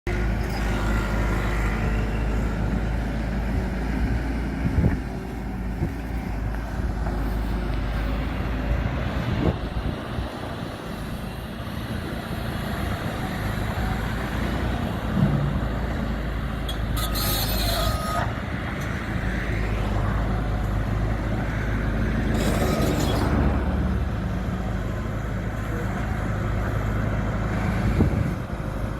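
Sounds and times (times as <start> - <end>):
heavy engine rumbling: 0.1 - 28.9.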